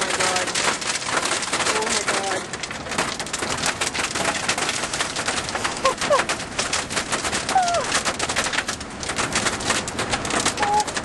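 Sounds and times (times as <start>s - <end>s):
hail and rain on car roof: 0.0s - 11.0s.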